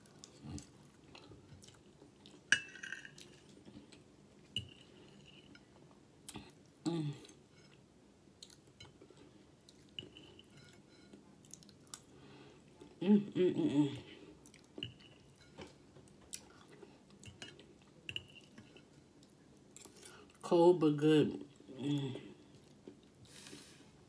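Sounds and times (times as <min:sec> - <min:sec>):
person chewing food: 0:00.0 - 0:02.5, 0:03.2 - 0:13.0, 0:14.2 - 0:20.4, 0:22.4 - 0:23.6.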